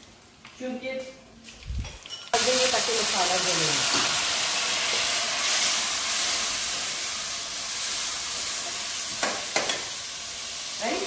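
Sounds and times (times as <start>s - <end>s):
spice paste sizzling in pan: 2.0s - 11.0s.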